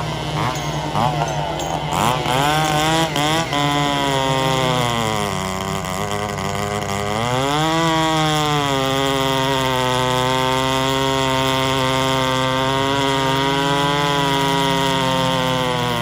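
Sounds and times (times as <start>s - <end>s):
chainsaws cutting logs: 0.0s - 16.0s.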